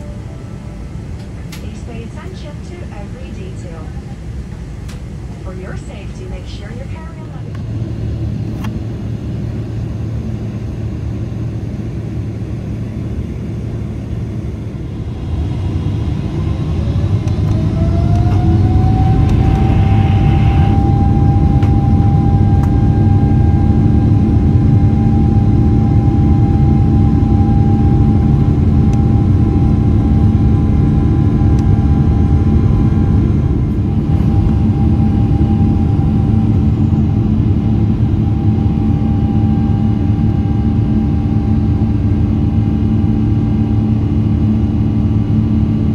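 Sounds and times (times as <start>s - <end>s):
jet engines spooling up: 0.0s - 45.1s.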